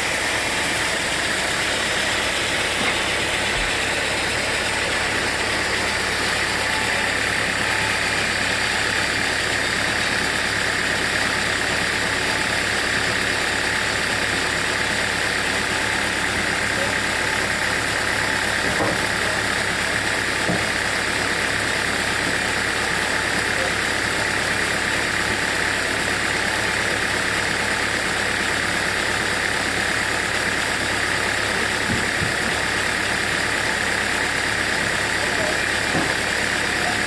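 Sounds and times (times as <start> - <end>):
sawmill machinery droning: 0.0 - 37.0.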